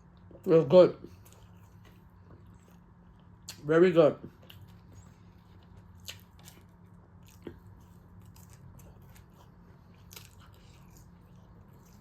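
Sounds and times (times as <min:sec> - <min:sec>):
person chewing food: 0:00.0 - 0:03.6, 0:04.2 - 0:12.0
low steady hum: 0:00.0 - 0:12.0.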